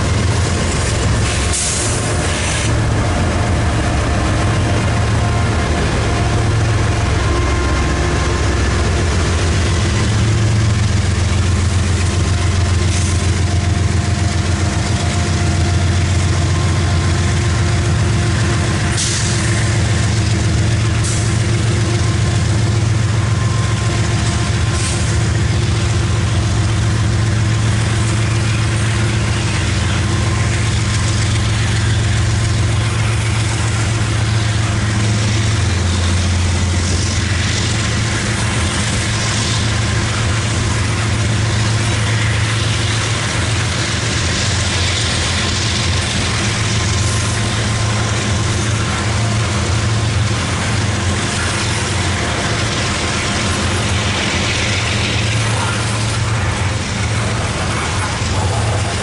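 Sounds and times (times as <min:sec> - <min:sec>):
low hum: 0:00.0 - 0:59.0
steel wheels rumbling on rail: 0:00.0 - 0:59.0.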